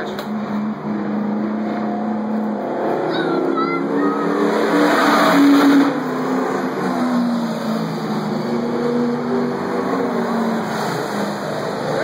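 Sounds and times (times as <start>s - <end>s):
race car engine passing: 0.0s - 12.0s.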